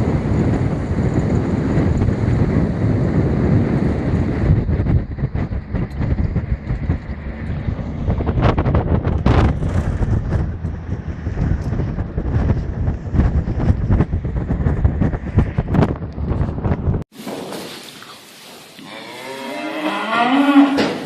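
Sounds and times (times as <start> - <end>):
low vehicle rumble: 0.0 - 17.1
wind buffeting microphone: 0.0 - 17.3.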